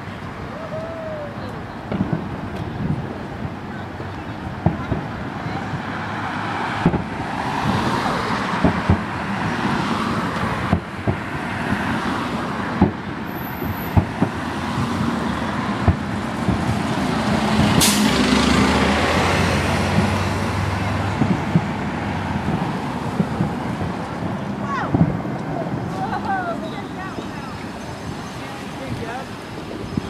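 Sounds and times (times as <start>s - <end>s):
bus engine: 0.0s - 30.0s
road traffic passing: 0.0s - 30.0s
distant fireworks bangs: 1.8s - 30.0s.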